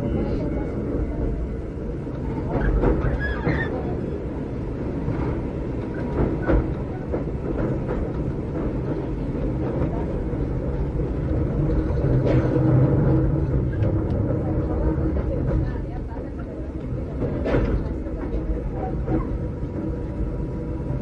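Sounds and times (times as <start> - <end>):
train running on rails: 0.0 - 21.0.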